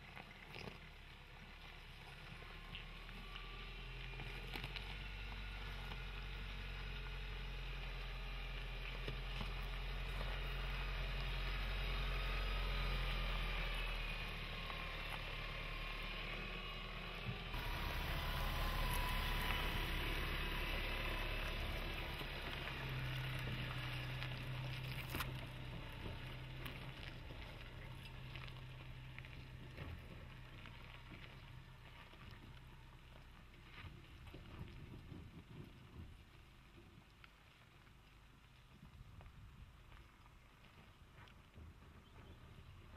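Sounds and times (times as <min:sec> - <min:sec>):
diesel pickup engine running: 0:00.0 - 0:36.6
tyres over rocky gravel: 0:00.0 - 0:42.9.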